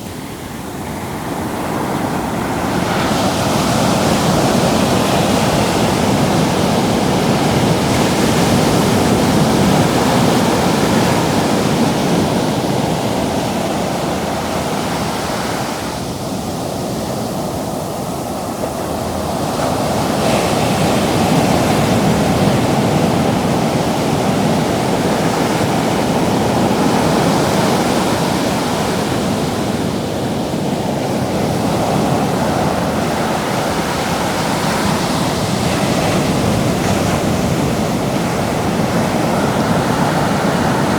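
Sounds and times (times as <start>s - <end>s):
ocean surf breaking on beach: 0.0s - 40.9s.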